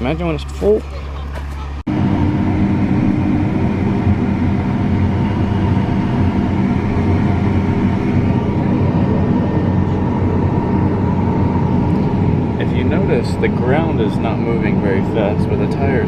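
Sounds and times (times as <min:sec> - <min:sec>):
diesel engine under heavy load: 0:00.0 - 0:16.0.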